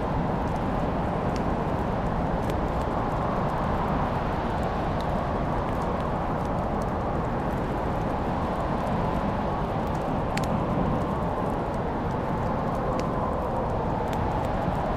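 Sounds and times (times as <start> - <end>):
faint fire crackles: 0.0 - 14.9
fire burning with low rush: 0.0 - 14.9.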